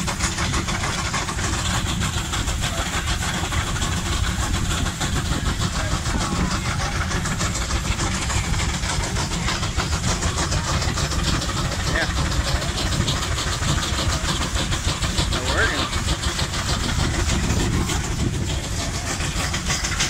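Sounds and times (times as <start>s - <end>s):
low rumble: 0.0s - 20.0s
steam engine exhaust beat: 0.0s - 20.0s.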